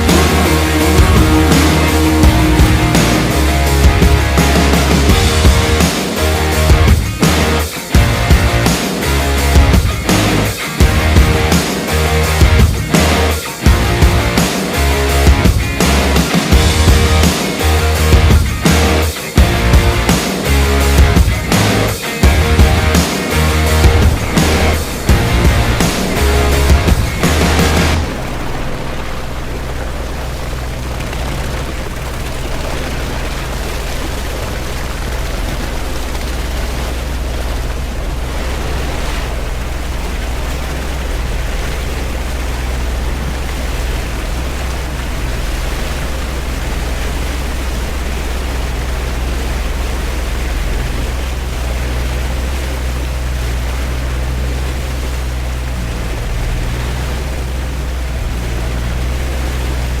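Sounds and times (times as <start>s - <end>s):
constant rushing noise: 0.0s - 60.0s
vehicle engine droning: 0.0s - 60.0s.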